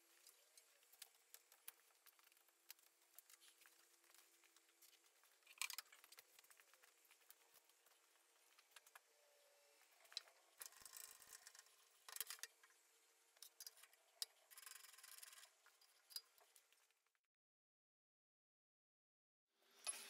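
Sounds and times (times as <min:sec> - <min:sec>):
faint steady hum: 0:00.0 - 0:17.1.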